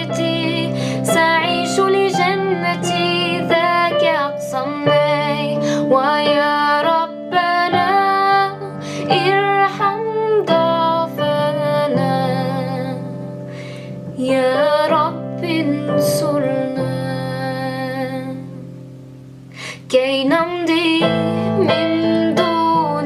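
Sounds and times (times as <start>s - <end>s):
woman singing: 0.0s - 18.8s, 19.6s - 23.0s.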